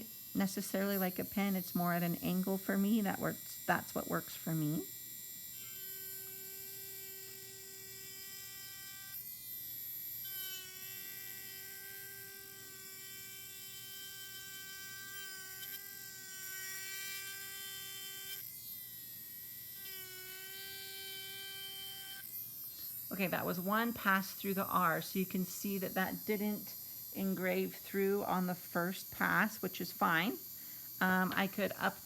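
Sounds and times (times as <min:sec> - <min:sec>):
rotary engraving tool whining: 0:00.0 - 0:32.0.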